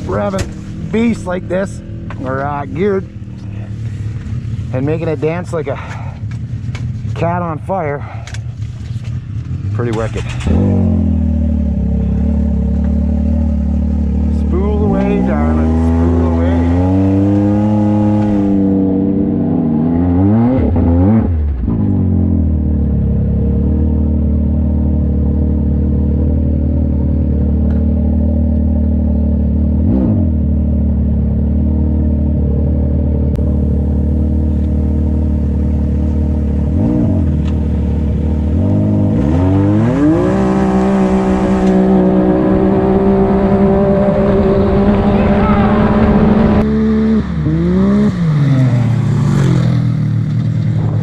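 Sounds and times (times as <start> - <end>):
vehicle engine running hard: 0.0 - 51.0.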